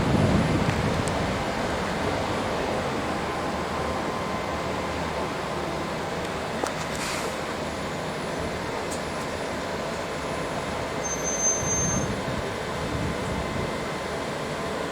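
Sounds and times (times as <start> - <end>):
bus rumble and road noise: 0.0 - 14.9.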